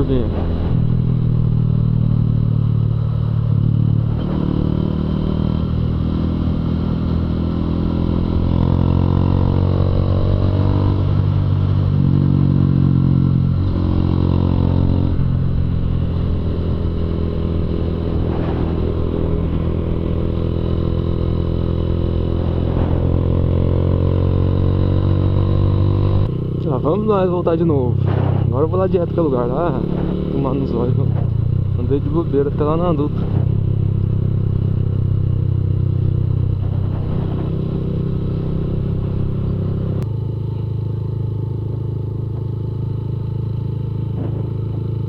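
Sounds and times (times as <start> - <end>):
motorcycle engine revving: 0.0 - 45.0
wind and road noise: 0.0 - 45.0.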